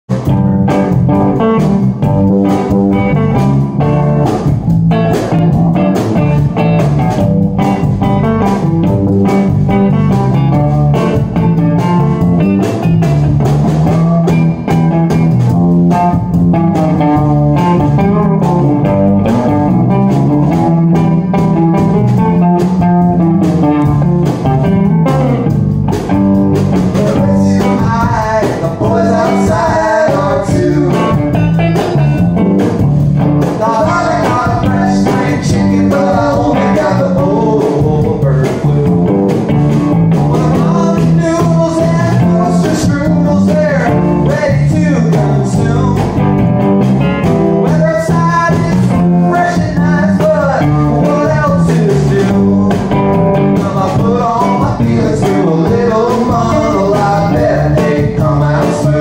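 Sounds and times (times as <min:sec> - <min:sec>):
electric guitars playing: 0:00.1 - 0:59.0
drum beat: 0:00.2 - 0:59.0.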